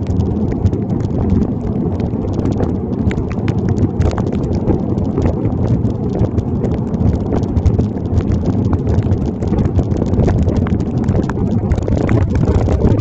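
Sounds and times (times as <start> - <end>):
low rumble of riding: 0.0 - 13.0
rain drops tapping on plastic bag: 0.0 - 13.0.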